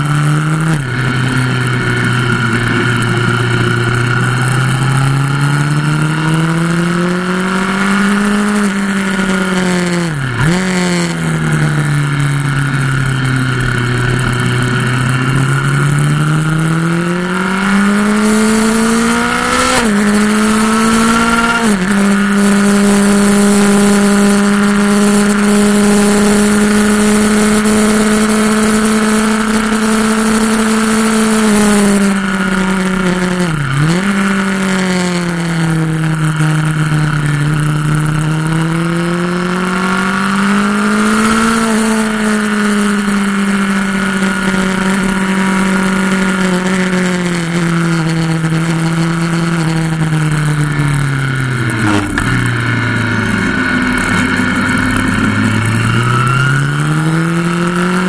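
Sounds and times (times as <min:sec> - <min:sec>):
motorcycle engine running hard: 0:00.0 - 0:58.0.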